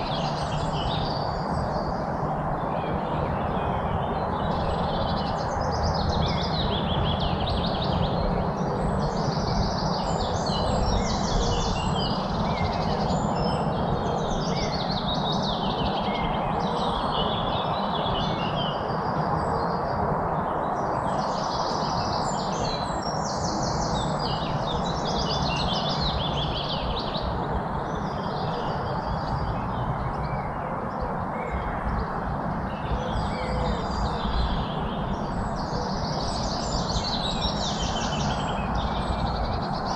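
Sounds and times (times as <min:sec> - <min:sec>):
songbirds chirping and trilling: 0:00.0 - 0:39.9
steady background noise: 0:00.0 - 0:39.9.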